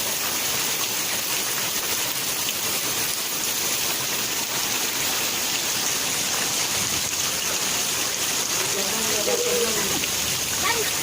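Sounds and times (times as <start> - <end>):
rain on the ground: 0.0 - 11.0.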